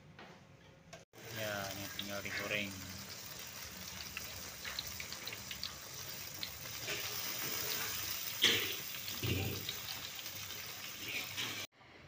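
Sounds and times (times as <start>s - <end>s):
batter sizzling in hot oil: 1.2s - 11.7s.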